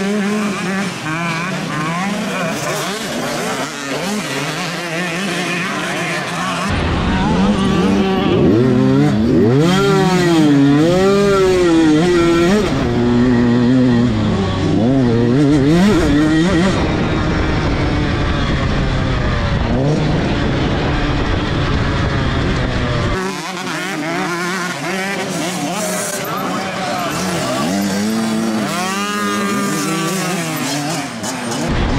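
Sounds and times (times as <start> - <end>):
dirt bike engines revving: 0.0 - 31.9.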